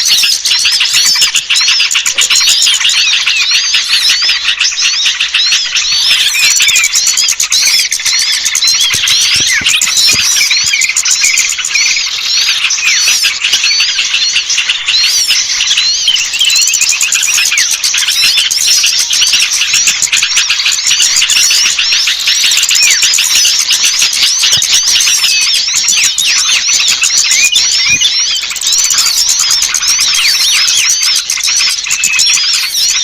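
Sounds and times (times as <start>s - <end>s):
small songbirds chirping: 0.0s - 33.0s.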